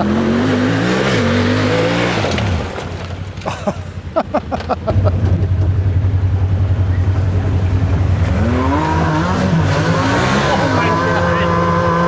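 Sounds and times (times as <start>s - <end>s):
engine revving: 0.0s - 12.0s
engine running at low revs: 0.0s - 12.0s.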